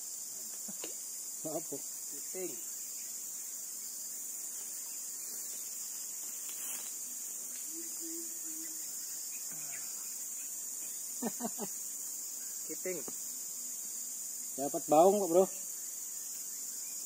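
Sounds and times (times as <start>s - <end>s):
insect chorus droning: 0.0s - 17.0s.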